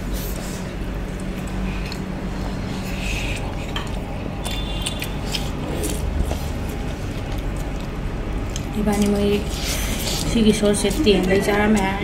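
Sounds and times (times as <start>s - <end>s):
chewing: 0.2s - 12.0s.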